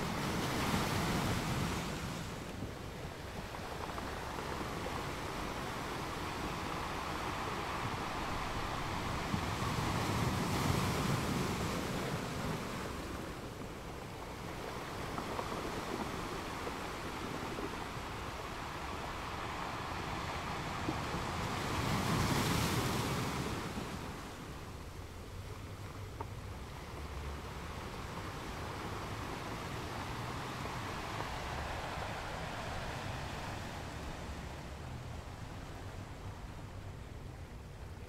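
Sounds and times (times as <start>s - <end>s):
waves breaking on shore: 0.0s - 38.0s.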